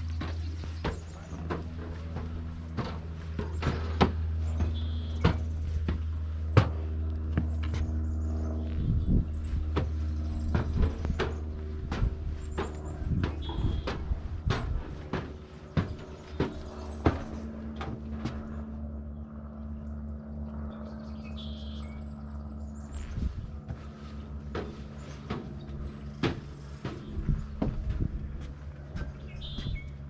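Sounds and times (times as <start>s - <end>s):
footsteps on wooden platform: 0.0s - 18.8s, 23.0s - 30.0s
steady low hum: 0.0s - 30.0s.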